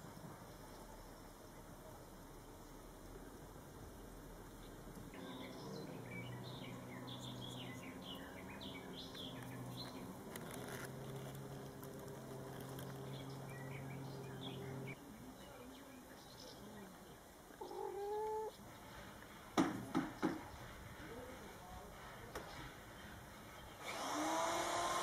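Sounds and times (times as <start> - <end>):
small birds chirping: 0.0 - 19.4, 20.0 - 24.0.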